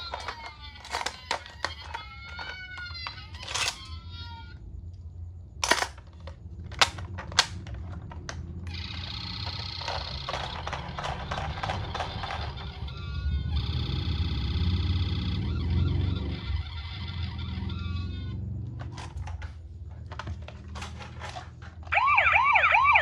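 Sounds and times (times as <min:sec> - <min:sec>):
toy ambulance electronic siren: 0:00.0 - 0:04.6, 0:05.6 - 0:07.8, 0:08.6 - 0:19.5, 0:21.8 - 0:23.0.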